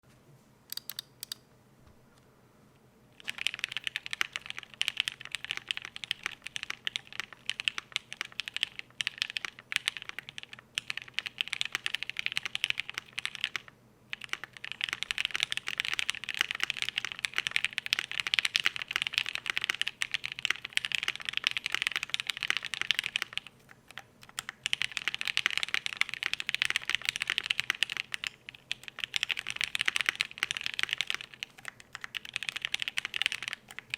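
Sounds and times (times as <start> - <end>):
fast typing on mechanical keyboard: 3.2 - 33.9.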